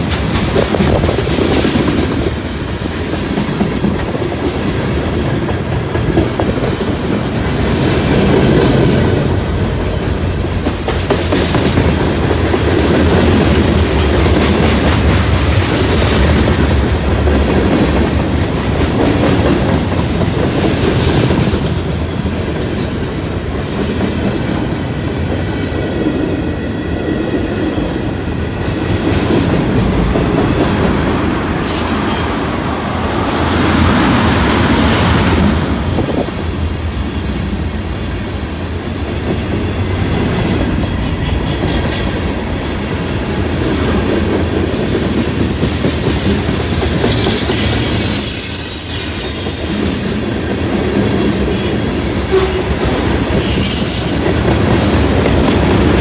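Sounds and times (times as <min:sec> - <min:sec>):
freight train rumbling past: 0:00.0 - 0:56.0
train wheels clicking over rail joints: 0:00.0 - 0:56.0.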